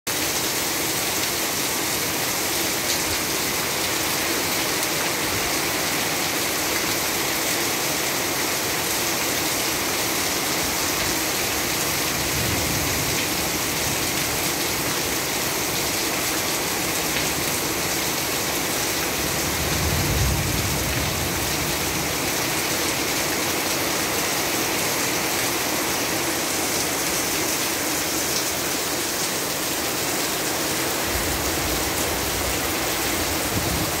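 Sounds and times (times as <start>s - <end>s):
rain falling at a window: 0.1s - 34.0s.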